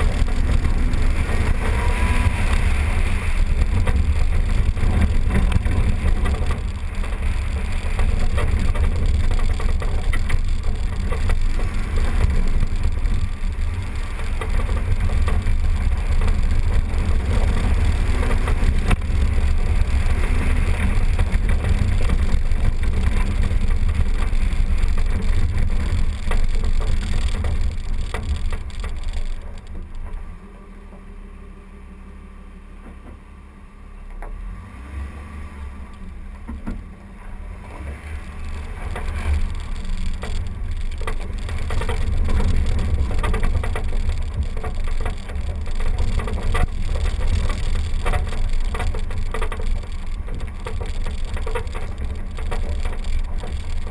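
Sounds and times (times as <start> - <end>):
tyre and engine noise: 0.0 - 53.9.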